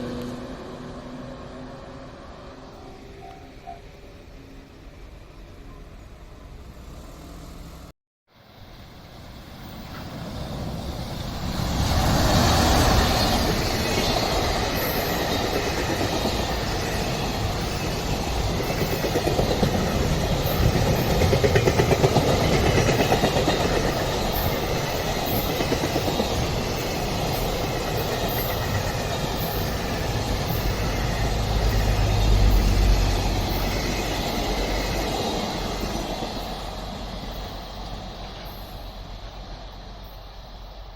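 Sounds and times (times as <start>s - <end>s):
train passing close by: 0.0s - 40.9s.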